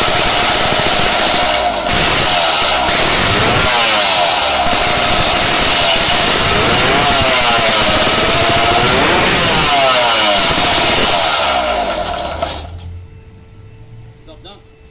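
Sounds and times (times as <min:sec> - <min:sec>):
two-stroke engine revving: 0:00.0 - 0:12.9.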